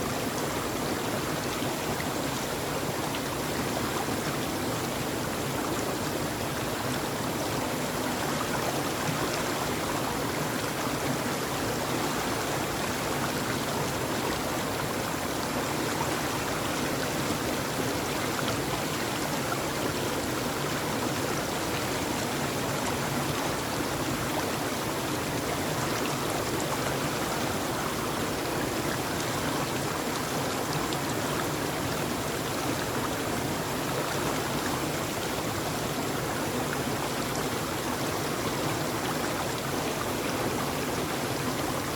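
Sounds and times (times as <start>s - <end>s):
rush of running water: 0.0s - 41.9s.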